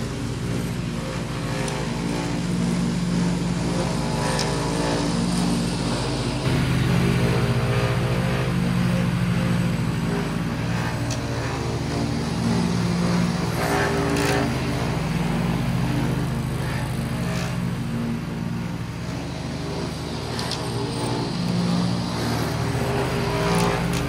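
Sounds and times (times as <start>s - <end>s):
ride-on mower engine running: 0.0s - 24.0s.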